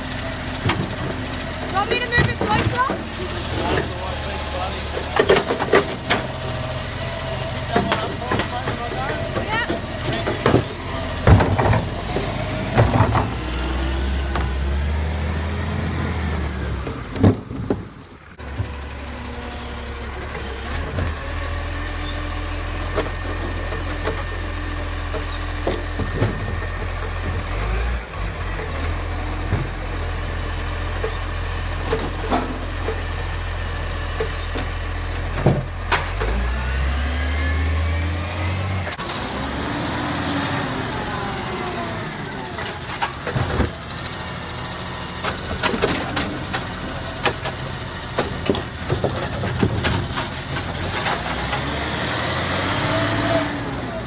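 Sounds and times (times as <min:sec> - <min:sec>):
diesel truck engine running: 0:00.0 - 0:54.0
hydraulics whining: 0:00.0 - 0:54.0.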